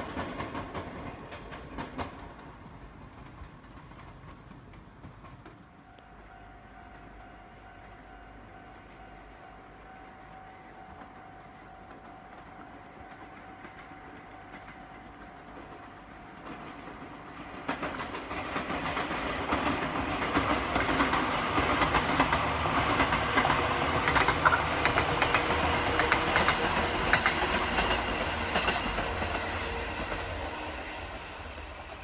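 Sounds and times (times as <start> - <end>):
wheels clicking over rail joints: 0.0 - 7.2, 10.0 - 32.0
electric train passing: 0.0 - 32.0.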